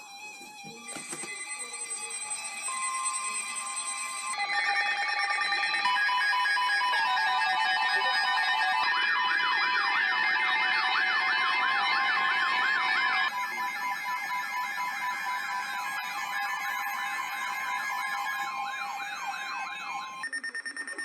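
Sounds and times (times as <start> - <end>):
electronic alert tones and beeps: 0.8 - 21.0
siren-like sweeping tone: 3.4 - 20.2.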